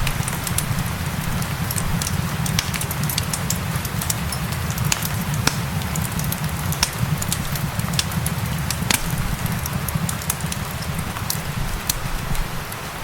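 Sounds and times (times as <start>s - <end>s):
rain hissing: 0.0s - 13.0s
wood fire crackling: 0.0s - 13.0s.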